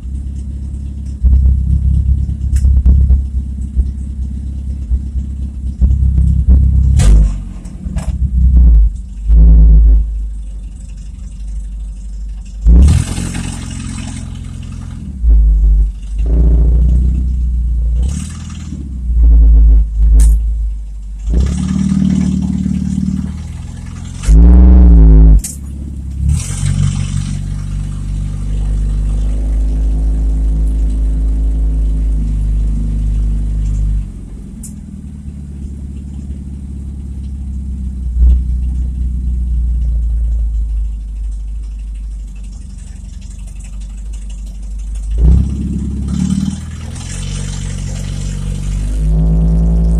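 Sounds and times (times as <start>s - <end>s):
car engine revving loud exhaust: 0.0s - 49.9s.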